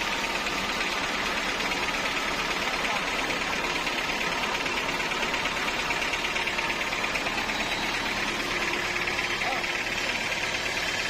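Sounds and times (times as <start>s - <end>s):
sawmill machinery humming: 0.0s - 11.0s.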